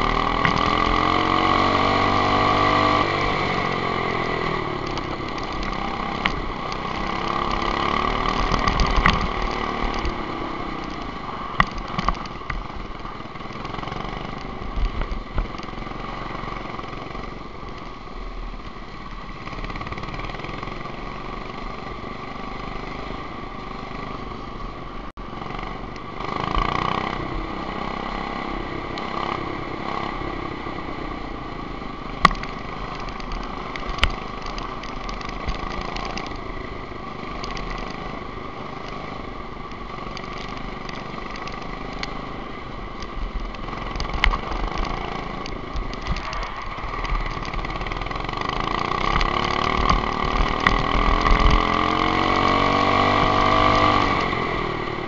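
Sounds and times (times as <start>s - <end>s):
go-kart engine revving: 0.0s - 17.5s, 19.2s - 24.6s, 25.2s - 55.0s.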